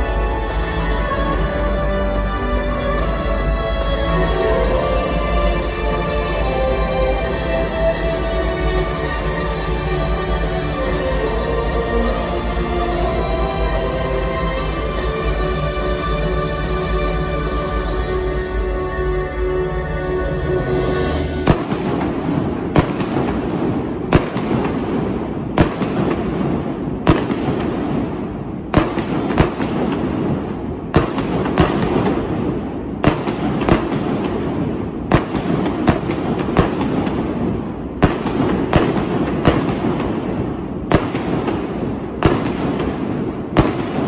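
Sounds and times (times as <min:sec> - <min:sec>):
fireworks bangs echoing: 0:03.7 - 0:18.0, 0:20.2 - 0:44.0.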